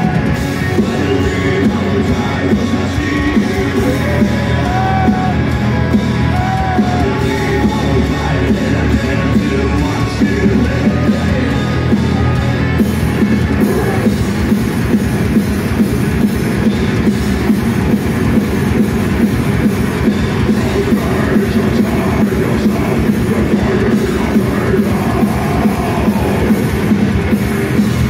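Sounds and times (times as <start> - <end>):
metal band playing live: 0.0 - 28.0.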